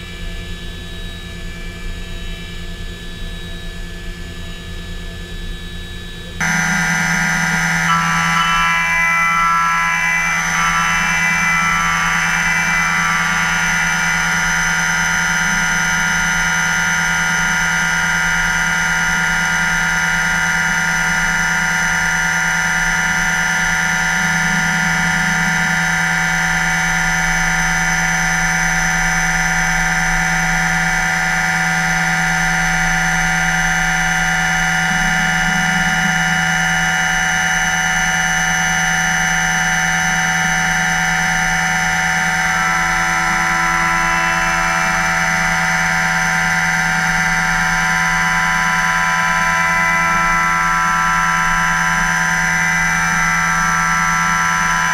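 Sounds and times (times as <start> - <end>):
low hum: 6.2 - 54.9
milling machine whine: 6.4 - 54.9.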